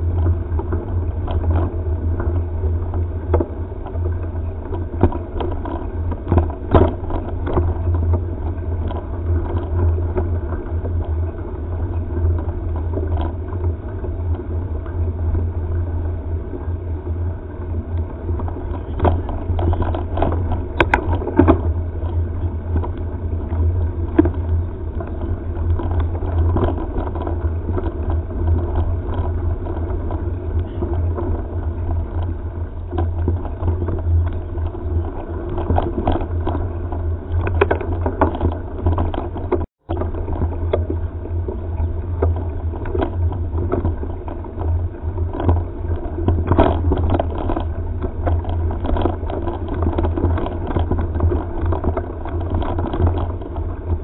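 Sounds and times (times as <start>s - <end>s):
bike clicks and rattles: 0.0s - 54.0s
wind rumble on microphone: 0.0s - 54.0s.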